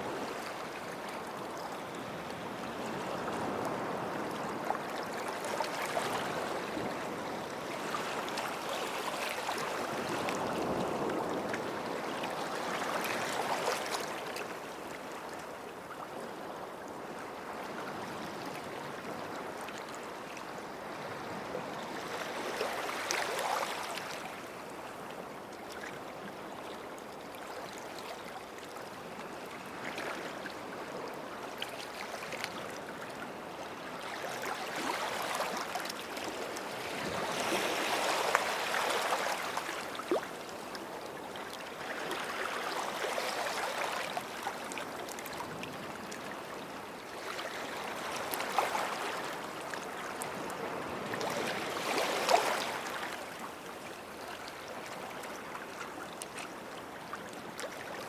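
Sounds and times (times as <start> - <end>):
small waves washing onto shore: 0.0 - 26.7, 27.6 - 58.0.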